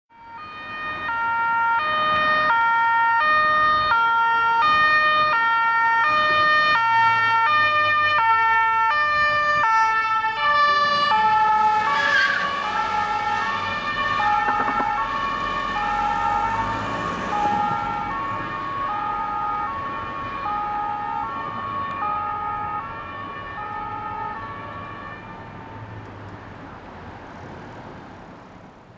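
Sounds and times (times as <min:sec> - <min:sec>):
two-tone siren: 0:00.1 - 0:25.9.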